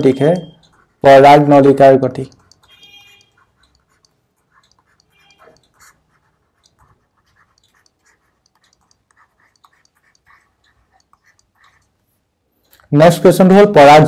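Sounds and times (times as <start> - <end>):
stylus scratching on tablet: 0.0 - 12.6.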